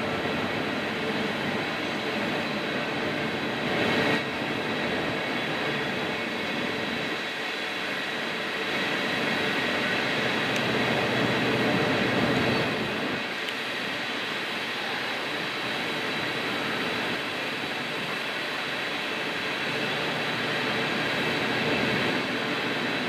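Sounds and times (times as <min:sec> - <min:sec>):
steel train wheels on rail: 0:00.0 - 0:23.0.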